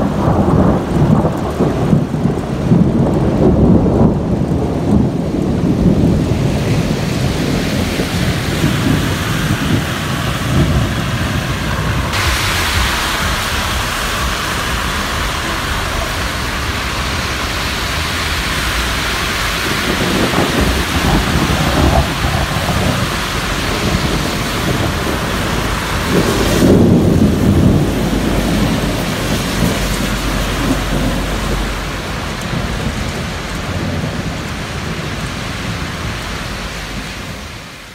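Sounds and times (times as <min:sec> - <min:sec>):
rolling thunder: 0:00.0 - 0:37.9
steady rain falling: 0:00.0 - 0:37.9.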